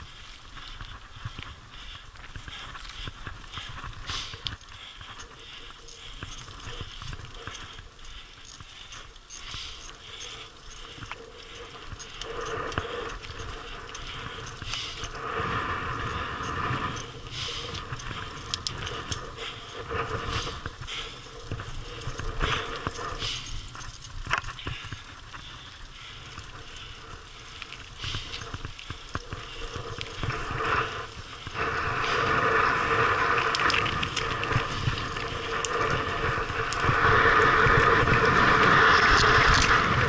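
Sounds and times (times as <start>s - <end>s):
bike clattering and rattling: 0.0s - 40.0s
tyres crunching over stones: 0.0s - 40.0s.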